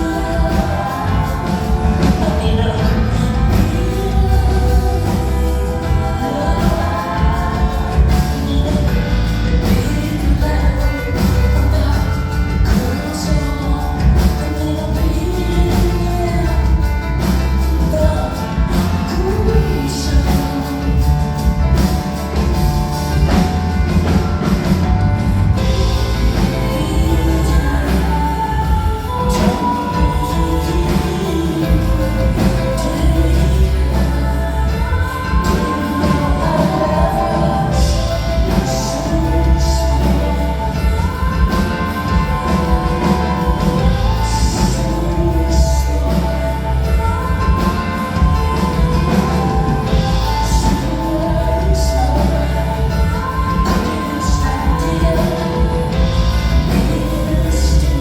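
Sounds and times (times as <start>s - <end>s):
live concert music: 0.0s - 58.0s
steady bass: 0.0s - 58.0s
woman singing: 0.0s - 58.0s.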